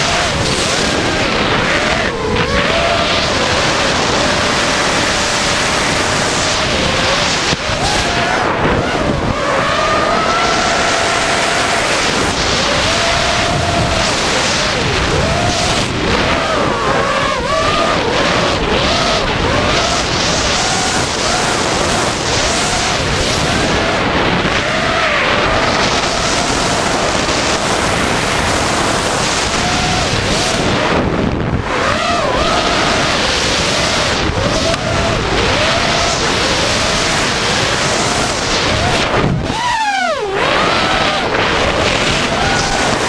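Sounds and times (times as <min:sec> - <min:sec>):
quadcopter motors whining: 0:00.0 - 0:43.0
wind rushing on microphone: 0:00.0 - 0:43.0.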